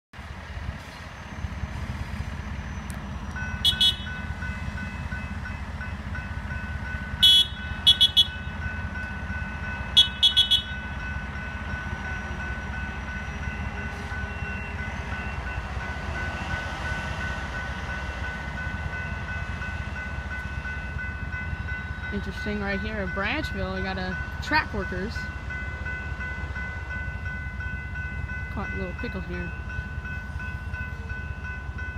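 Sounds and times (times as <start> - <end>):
crossing warning bell ringing: 1.0 - 31.9.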